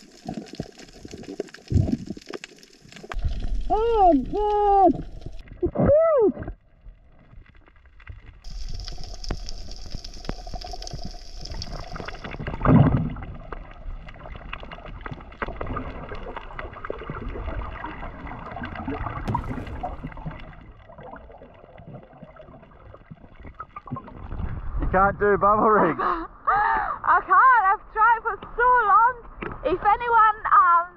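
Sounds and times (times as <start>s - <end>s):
underwater crackles and clicks: 0.0s - 25.7s, 27.4s - 30.7s
muffled underwater wash: 0.0s - 27.0s.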